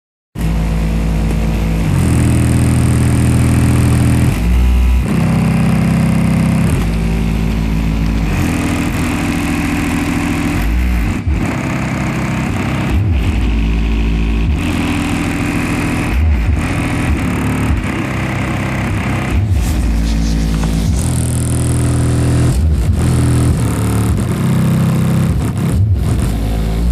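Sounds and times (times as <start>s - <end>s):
bass-heavy music through subwoofer: 0.4s - 26.9s.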